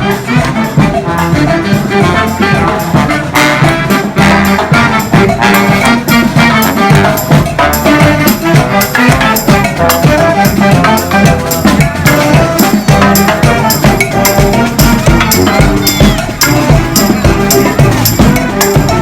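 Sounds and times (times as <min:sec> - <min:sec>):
brass marching band playing: 0:00.0 - 0:19.0.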